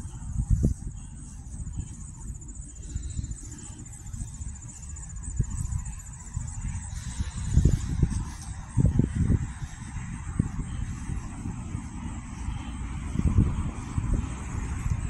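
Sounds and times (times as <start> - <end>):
insects trilling: 0.0 - 15.0
wind rumble on microphone: 0.0 - 15.0.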